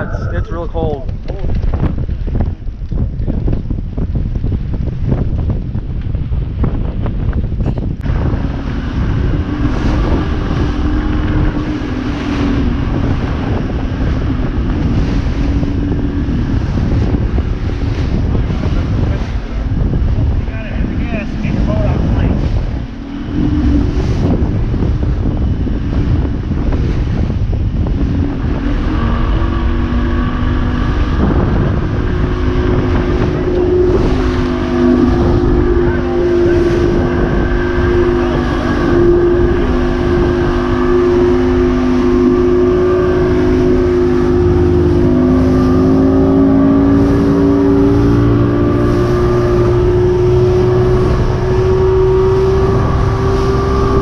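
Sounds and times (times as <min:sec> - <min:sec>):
hull slapping waves: 0:00.0 - 0:54.0
outboard motor at high speed: 0:00.0 - 0:54.0
spray and wind rushing: 0:00.0 - 0:54.0.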